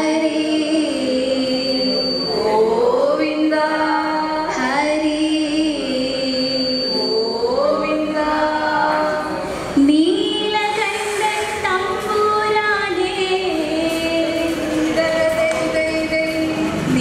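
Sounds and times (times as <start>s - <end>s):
woman singing into a microphone: 0.0s - 17.0s.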